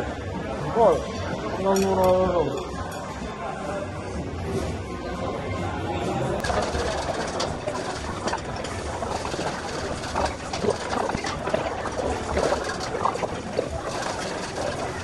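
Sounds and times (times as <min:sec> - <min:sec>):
restaurant background murmur: 0:00.0 - 0:15.0.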